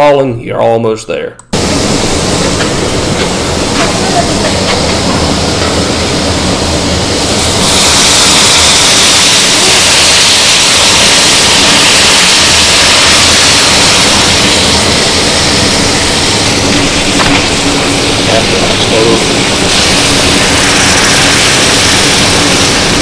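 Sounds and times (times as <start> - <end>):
juice boiling in a kettle: 1.6 - 23.0.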